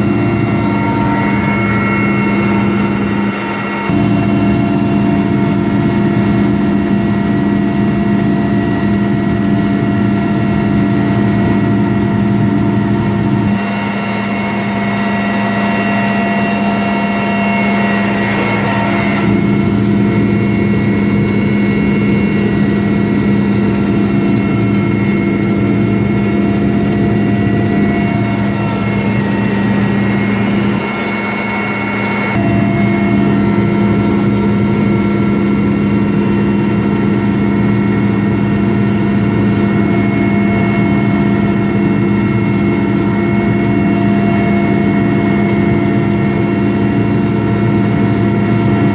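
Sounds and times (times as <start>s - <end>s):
helicopter engines and rotor drone: 0.0s - 48.9s.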